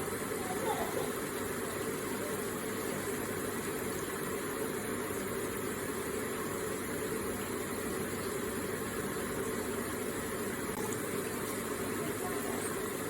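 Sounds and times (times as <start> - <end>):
water feature falling water rush: 0.0 - 13.0.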